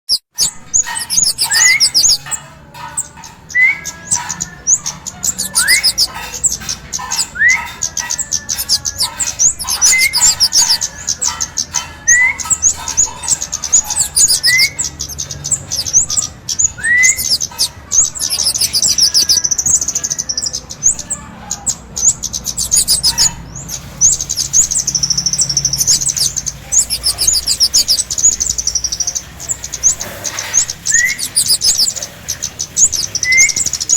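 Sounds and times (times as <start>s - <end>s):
bird chattering: 0.1s - 33.9s
bird warbling: 0.1s - 33.9s.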